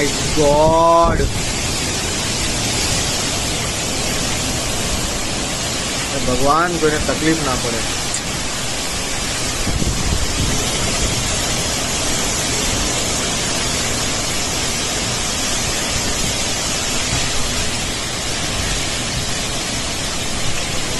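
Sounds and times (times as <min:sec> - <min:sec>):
heavy rain hissing: 0:00.0 - 0:20.9
strong wind gusts rumbling: 0:00.0 - 0:20.9.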